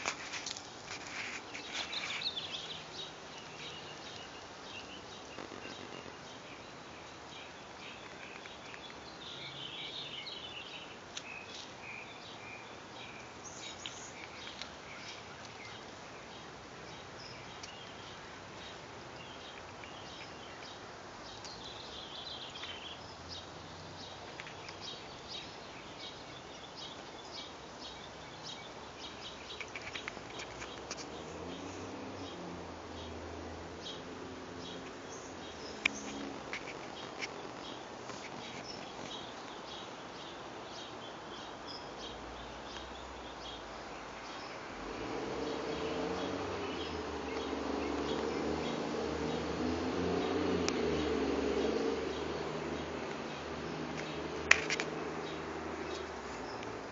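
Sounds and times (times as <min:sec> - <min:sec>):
small birds chirping: 0:00.0 - 0:56.9
steady background hiss: 0:00.0 - 0:56.9.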